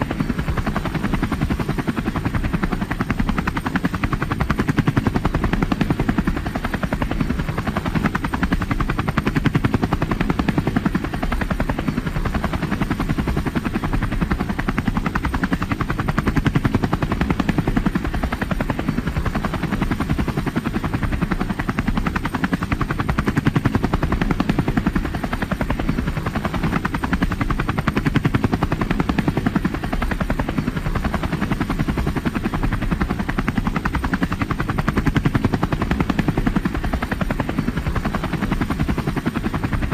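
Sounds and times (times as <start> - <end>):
helicopter engine noise: 0.0 - 39.9
helicopter rotor chopping: 0.0 - 39.9.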